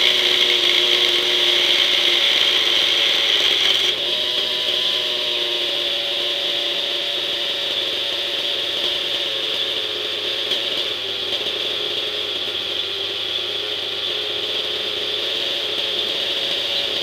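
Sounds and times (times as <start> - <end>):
model helicopter engine running: 0.0 - 17.0.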